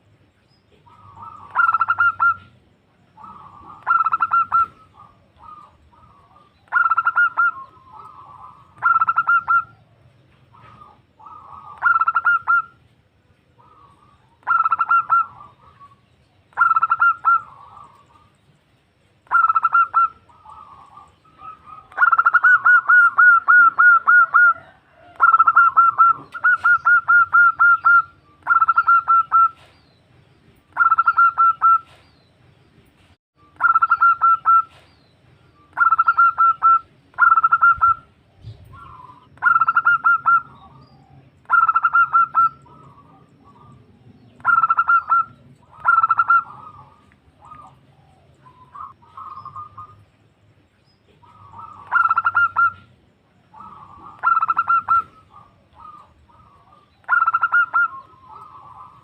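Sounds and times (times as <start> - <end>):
dove cooing: 0.8 - 12.8, 13.4 - 18.4, 19.2 - 29.7, 30.8 - 32.0, 33.6 - 34.9, 35.6 - 50.1, 51.1 - 59.0.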